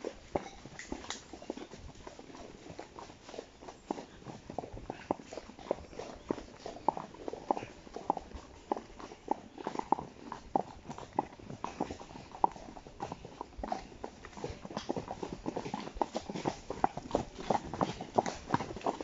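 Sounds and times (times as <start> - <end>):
horse hooves clip-clopping on dirt: 0.0 - 19.0.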